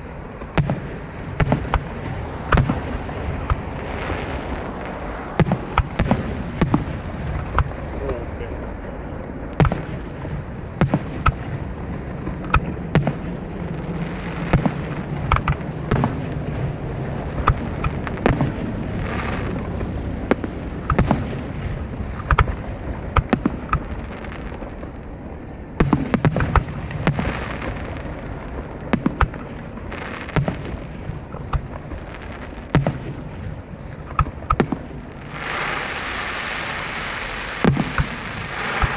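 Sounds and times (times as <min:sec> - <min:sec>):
fireworks rumble and crackle: 0:00.0 - 0:38.9.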